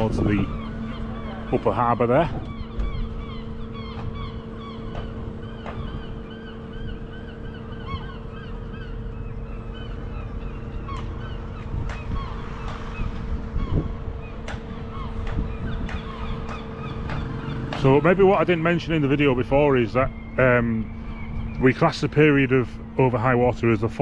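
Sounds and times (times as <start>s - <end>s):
bird calls: 0.0s - 24.0s
bridge motors humming: 0.0s - 24.0s.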